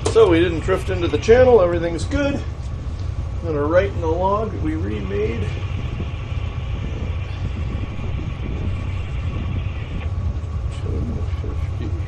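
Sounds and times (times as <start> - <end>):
diesel engines droning: 0.0 - 12.0
high whine: 0.0 - 12.0.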